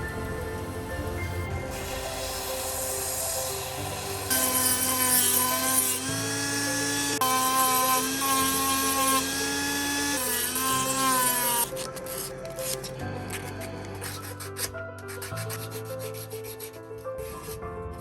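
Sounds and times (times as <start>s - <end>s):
background music sustained chords: 0.0s - 18.0s.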